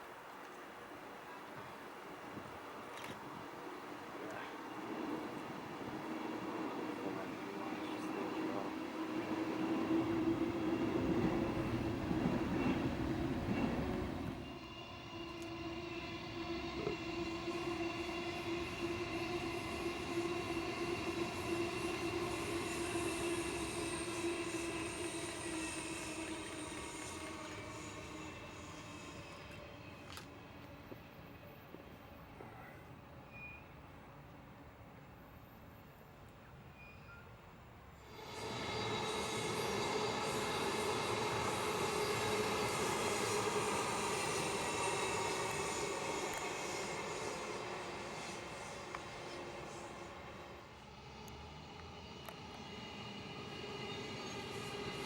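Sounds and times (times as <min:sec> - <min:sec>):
electric train running past: 0:00.0 - 0:55.0
high-pitched whine: 0:04.3 - 0:31.4, 0:38.0 - 0:55.0.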